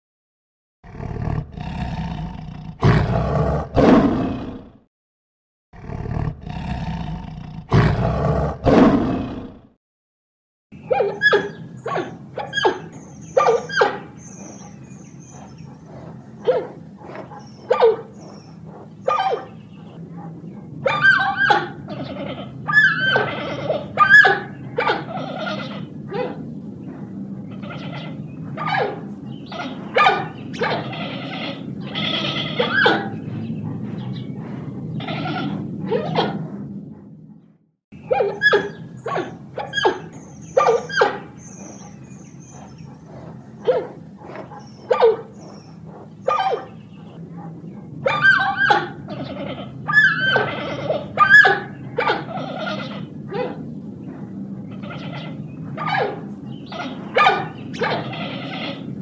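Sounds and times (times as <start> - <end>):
lions roaring: 0.8 - 4.8, 5.8 - 9.6, 11.1 - 59.0.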